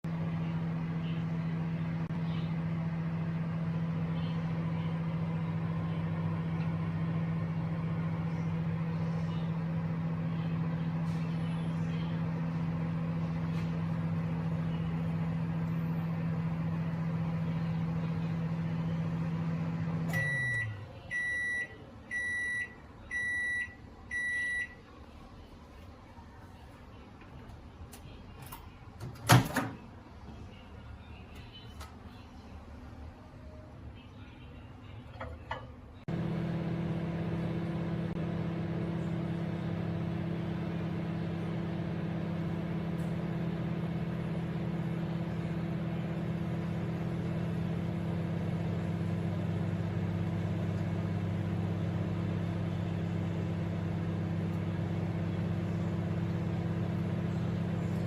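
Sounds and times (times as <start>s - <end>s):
microwave oven humming: 0.0s - 25.6s, 26.2s - 58.0s.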